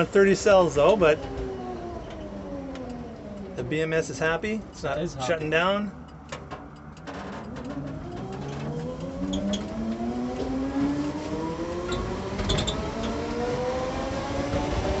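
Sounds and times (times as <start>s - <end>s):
road rumble: 0.0s - 15.0s.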